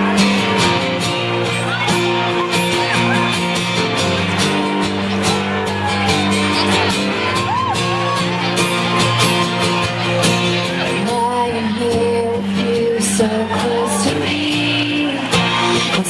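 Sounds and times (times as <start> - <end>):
crowd shouting: 0.0 - 16.0
live country band playing: 0.0 - 16.0.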